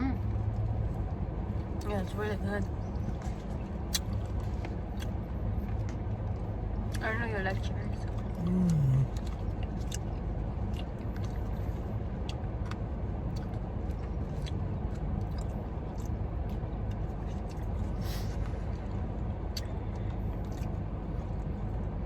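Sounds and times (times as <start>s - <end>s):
car interior rumble: 0.0s - 22.0s.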